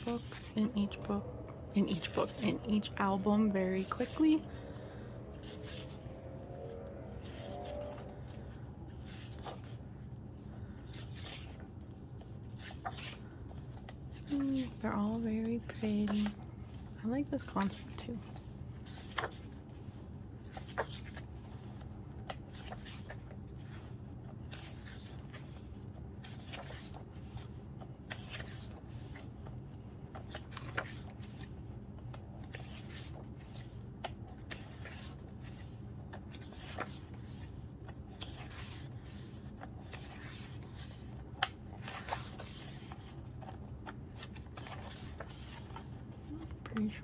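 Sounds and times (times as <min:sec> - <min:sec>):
low background hum: 0:00.0 - 0:47.0
pages turning and rustling: 0:00.0 - 0:47.0.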